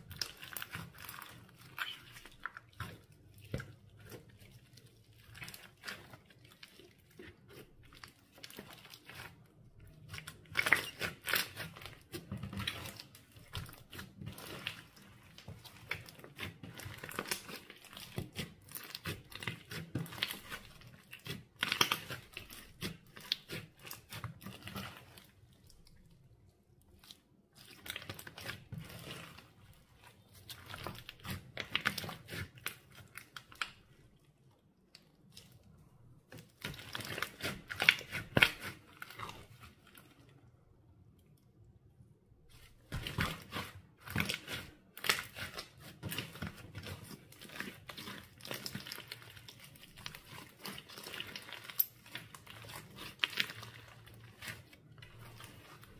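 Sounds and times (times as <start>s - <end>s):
slime squished by hand: 0.0s - 26.3s, 26.9s - 34.2s, 34.9s - 40.2s, 42.5s - 55.9s.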